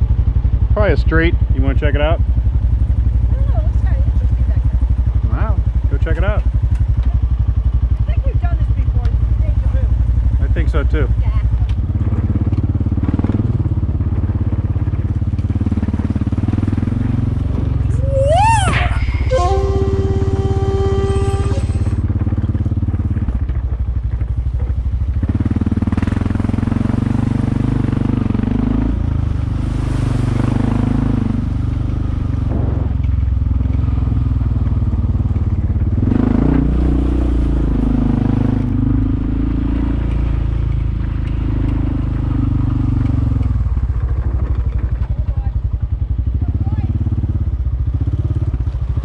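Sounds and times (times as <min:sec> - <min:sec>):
off-road vehicle engine running: 0:00.0 - 0:49.0.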